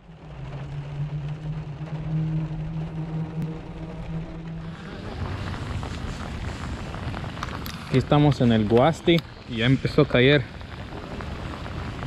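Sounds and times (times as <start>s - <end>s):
car engine hum: 0.0s - 12.0s
rain pattering on windshield: 0.0s - 12.0s.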